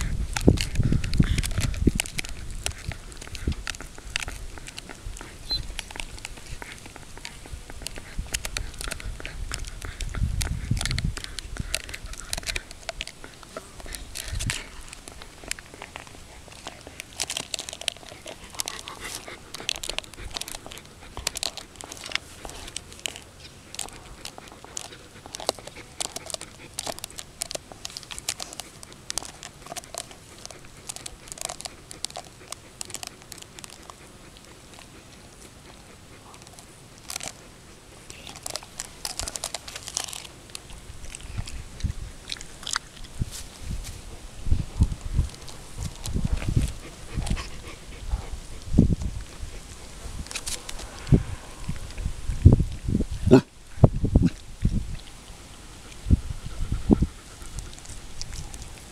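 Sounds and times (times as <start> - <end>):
dog gnawing bone: 0.0 - 58.9.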